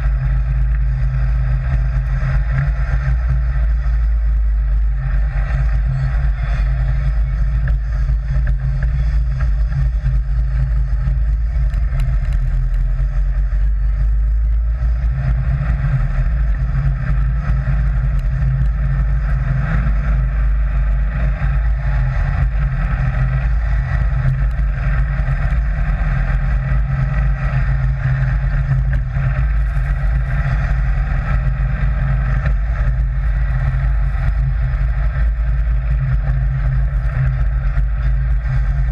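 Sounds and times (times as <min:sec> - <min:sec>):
buggy engine droning: 0:00.0 - 0:38.9.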